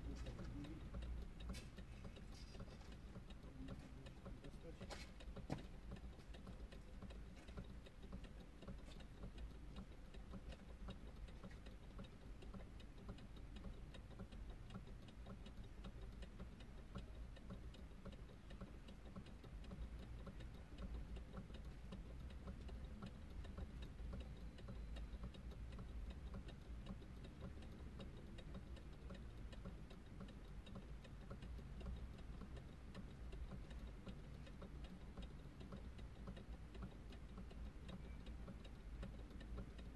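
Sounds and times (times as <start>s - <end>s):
steady ticking: 0.0s - 39.9s.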